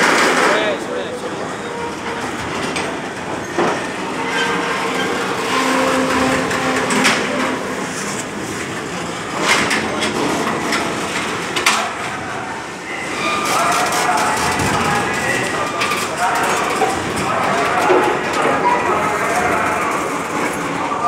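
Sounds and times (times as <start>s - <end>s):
rumble of rail machinery: 0.0s - 21.0s.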